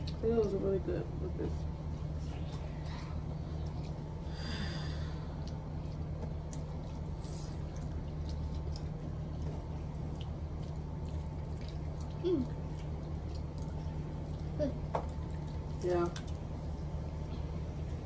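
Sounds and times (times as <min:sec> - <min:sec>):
small eating clicks: 0:00.0 - 0:18.0
steady low hum: 0:00.0 - 0:18.0.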